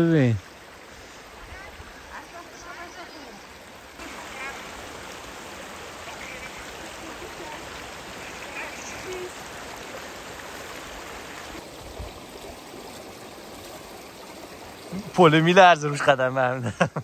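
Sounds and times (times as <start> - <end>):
stream flowing over rocks: 0.0 - 16.6.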